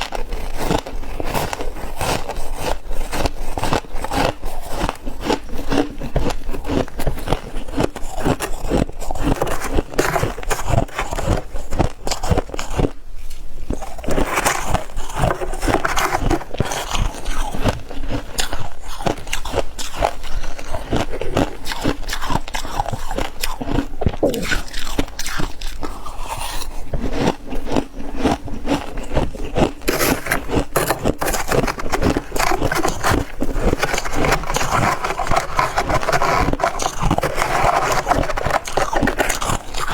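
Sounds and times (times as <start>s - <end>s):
frost crunching being chewed: 0.0s - 39.9s.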